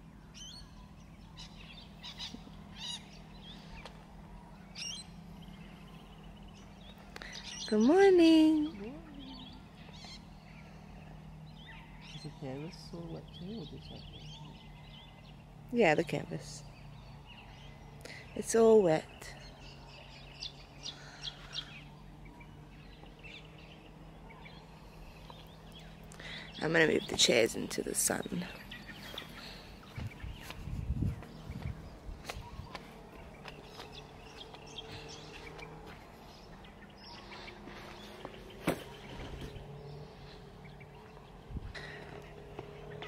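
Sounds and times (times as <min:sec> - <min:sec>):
birds chirping: 0:00.0 - 0:43.0
steady low hum: 0:00.0 - 0:43.0.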